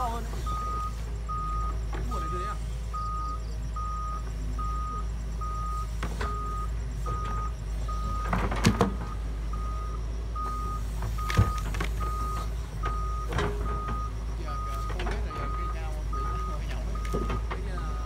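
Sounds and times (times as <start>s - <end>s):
warning beeper: 0.0s - 8.4s, 9.1s - 18.0s
excavator diesel engine running: 0.0s - 18.0s.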